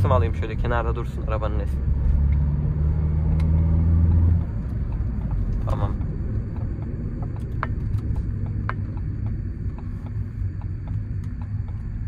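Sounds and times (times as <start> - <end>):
diesel engine and tyre rumble: 0.0 - 12.0.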